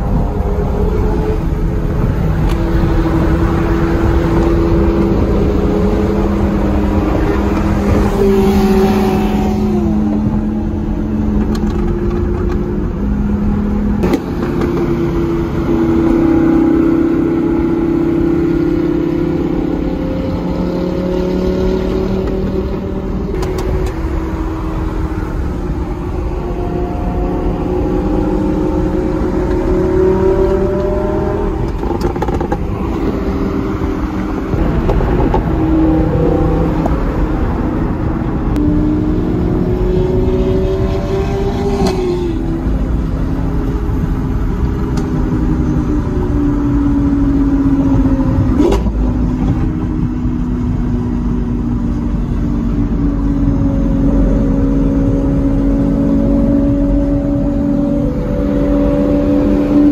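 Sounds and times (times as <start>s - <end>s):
road noise: 0.0s - 59.9s
sports car engine revving: 0.0s - 59.9s.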